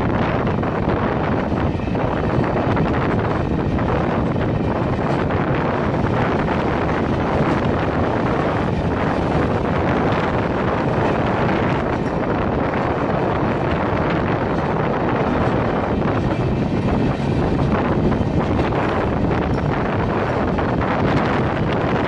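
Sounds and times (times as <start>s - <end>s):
passenger train rushing: 0.0s - 22.0s
wind buffeting microphone: 0.0s - 22.0s.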